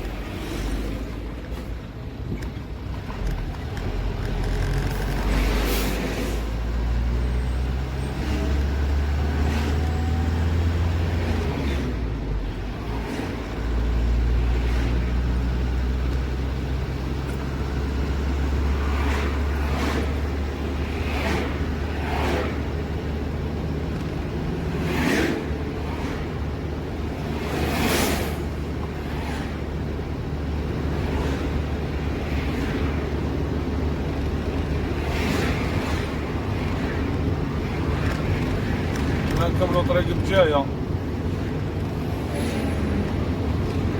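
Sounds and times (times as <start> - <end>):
truck engine rumbling: 0.0 - 43.9.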